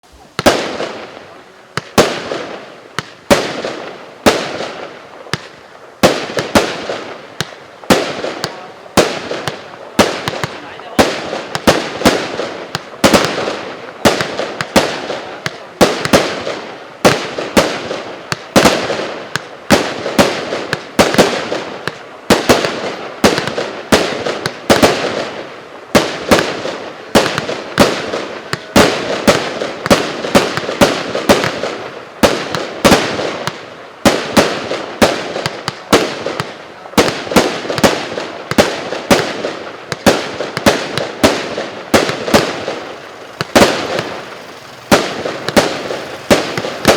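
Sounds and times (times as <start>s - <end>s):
crackling tails: 0.0s - 46.9s
firework cake launches and bursts: 0.0s - 46.9s.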